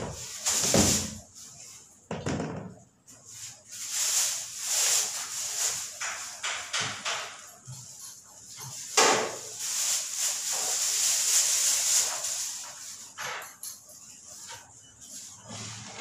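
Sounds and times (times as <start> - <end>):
rustling and scraping of handled things: 0.0 - 16.0.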